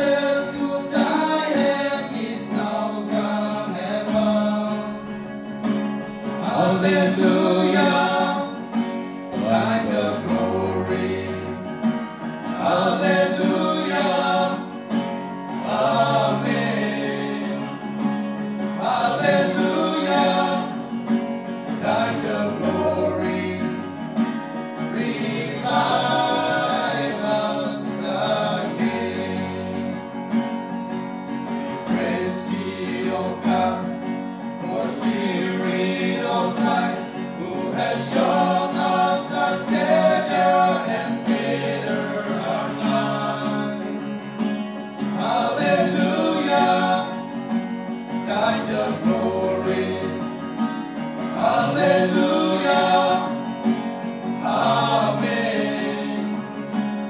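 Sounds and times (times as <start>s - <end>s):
male vocal group singing: 0.0s - 30.3s, 31.3s - 57.0s
strummed acoustic guitar: 0.0s - 57.0s.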